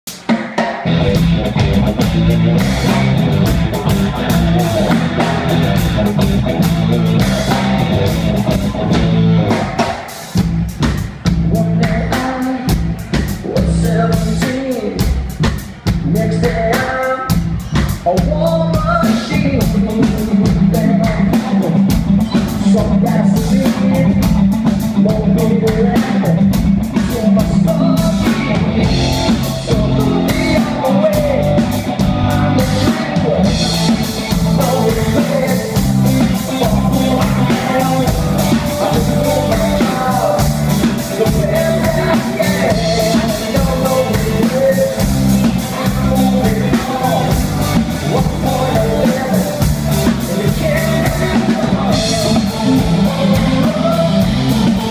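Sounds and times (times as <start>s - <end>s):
drum kit: 0.0s - 54.9s
man singing lead: 0.1s - 54.9s
electric guitar: 0.2s - 54.9s
bass guitar: 0.6s - 54.9s.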